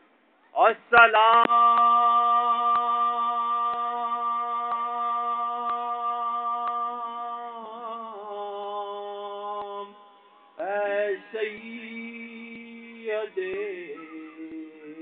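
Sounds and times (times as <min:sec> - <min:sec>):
man chanting unaccompanied: 0:00.6 - 0:15.0.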